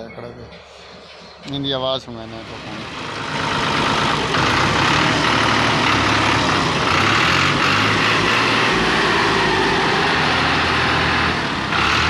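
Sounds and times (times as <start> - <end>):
tractor diesel engine running: 0.5 - 12.0.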